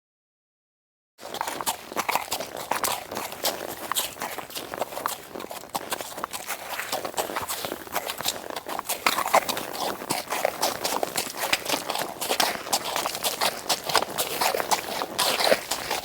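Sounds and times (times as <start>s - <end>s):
horse hooves clip-clopping: 1.2s - 16.0s.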